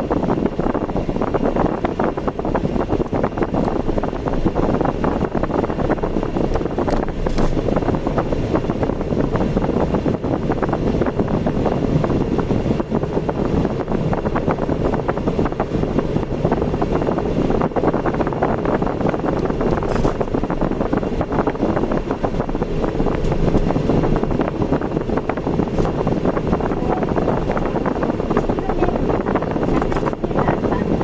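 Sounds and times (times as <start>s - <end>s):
car road and wind noise: 0.0s - 31.0s.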